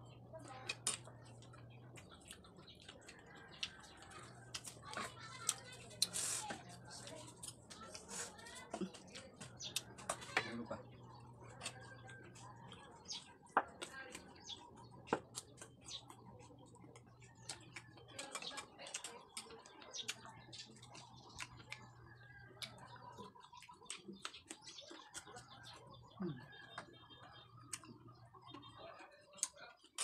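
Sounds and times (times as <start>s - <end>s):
chewing clicks and smacks: 0.0s - 30.0s.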